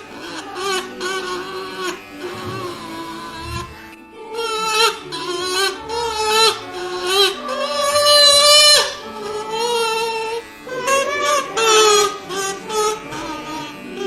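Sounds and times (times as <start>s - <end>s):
wavering voice-like melody: 0.0s - 14.0s.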